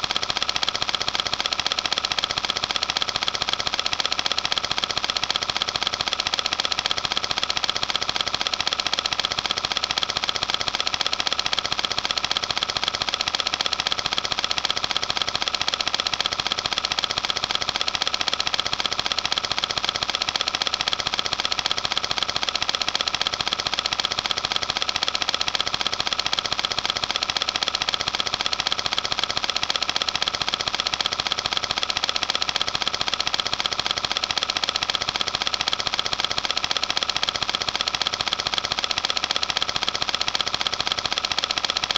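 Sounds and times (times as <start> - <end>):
film projector clatter: 0.0 - 41.9.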